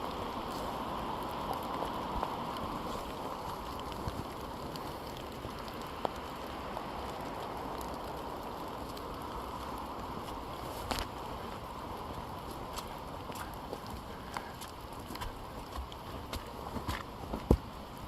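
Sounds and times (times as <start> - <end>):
steady rain falling: 0.0 - 18.0
water drips ticking: 0.0 - 18.0.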